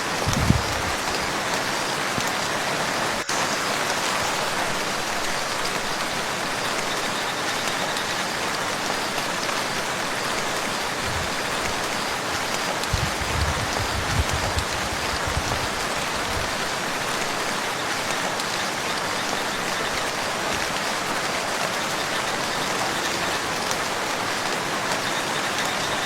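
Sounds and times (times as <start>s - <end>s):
rain falling on a lake: 0.0s - 26.0s.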